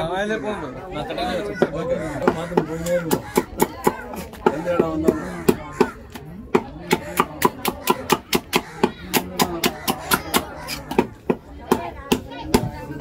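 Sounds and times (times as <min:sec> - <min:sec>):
knife chopping on wooden block: 0:01.6 - 0:12.7.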